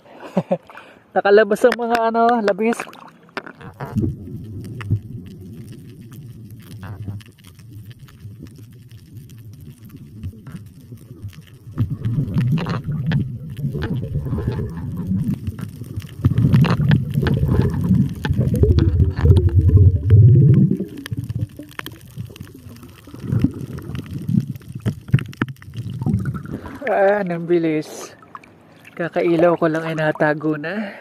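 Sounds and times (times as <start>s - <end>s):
underwater water gurgling: 2.5s - 30.7s.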